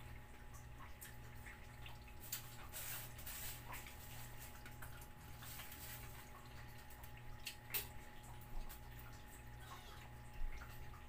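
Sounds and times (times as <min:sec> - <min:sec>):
low steady hum: 0:00.0 - 0:11.0
cats chewing and lapping: 0:00.1 - 0:11.0.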